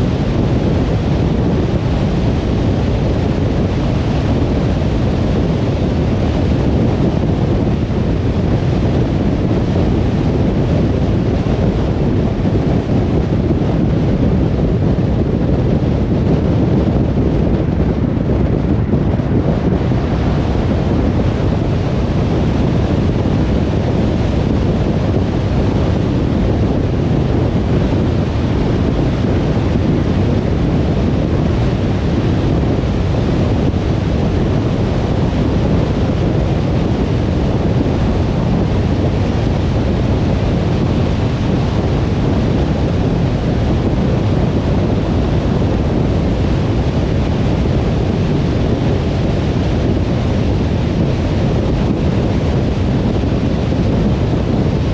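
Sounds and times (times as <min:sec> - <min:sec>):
car tyres and wind roar: 0:00.0 - 0:54.9.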